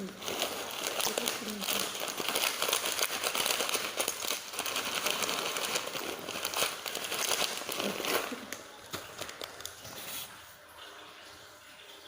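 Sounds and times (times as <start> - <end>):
rain pattering: 0.0 - 9.8.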